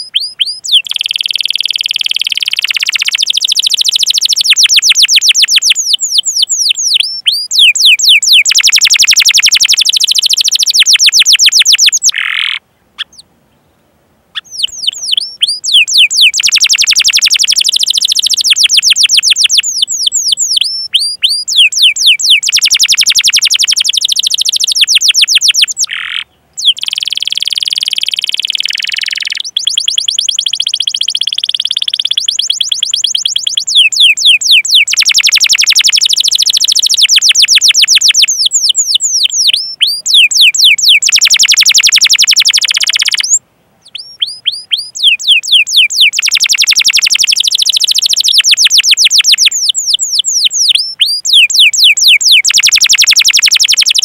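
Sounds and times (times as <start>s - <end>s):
canary singing: 0.0s - 13.3s, 14.3s - 54.0s.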